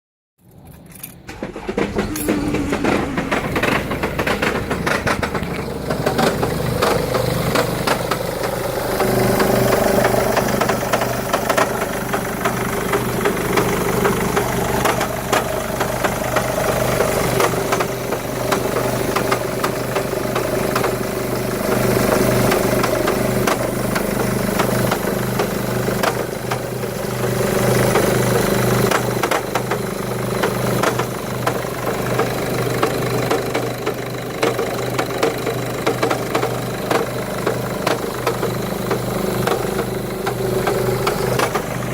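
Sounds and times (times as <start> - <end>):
car engine idling: 1.1 - 41.9.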